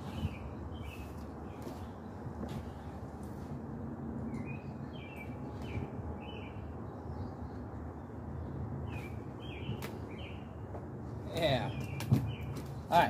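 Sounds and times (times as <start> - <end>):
low outdoor background noise: 0.0 - 13.0.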